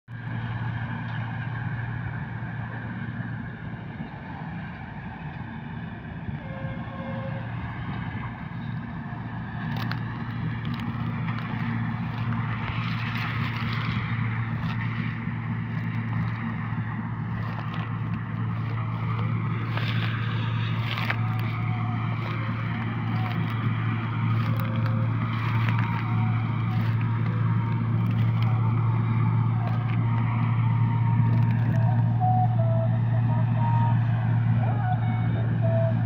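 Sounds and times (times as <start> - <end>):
tractor diesel engine hum: 0.1 - 36.0.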